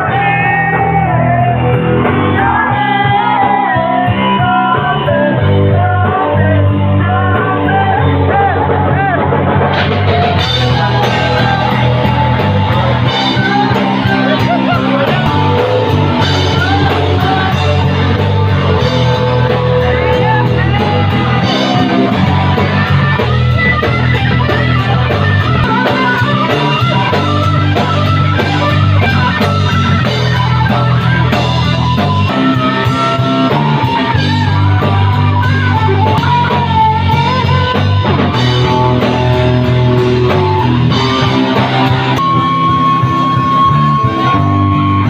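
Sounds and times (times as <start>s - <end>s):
rock band playing: 0.0s - 45.0s.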